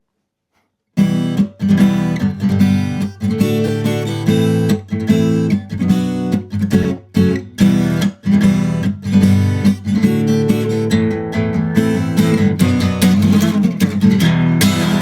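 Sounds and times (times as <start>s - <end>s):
acoustic guitar strumming: 1.0s - 15.0s.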